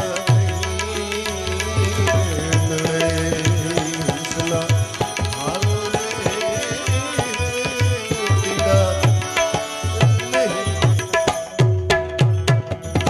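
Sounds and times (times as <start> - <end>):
tabla rhythm: 0.0 - 13.0.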